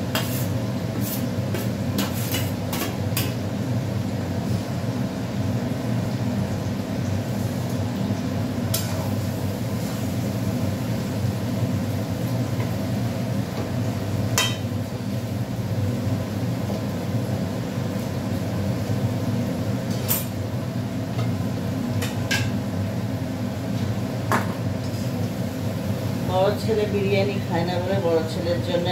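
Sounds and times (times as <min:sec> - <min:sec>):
low stove rumble: 0:00.0 - 0:28.9.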